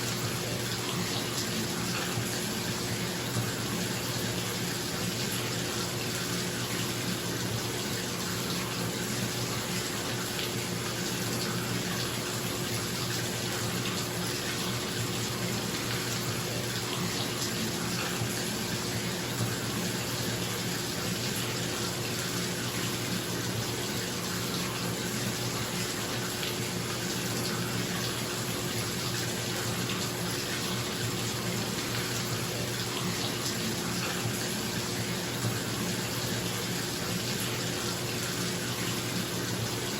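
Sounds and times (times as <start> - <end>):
tap water running into bathtub: 0.0 - 39.9.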